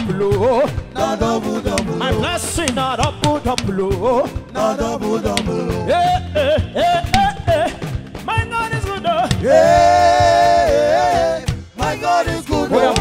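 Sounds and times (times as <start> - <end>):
lead singer singing: 0.0 - 7.9, 8.7 - 13.0
gospel band playing: 0.0 - 13.0.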